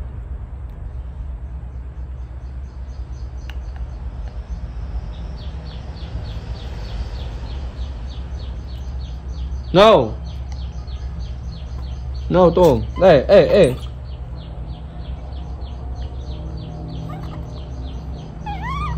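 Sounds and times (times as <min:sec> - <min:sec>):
steady low rumble: 0:00.0 - 0:18.5
bird chirping: 0:00.9 - 0:18.9.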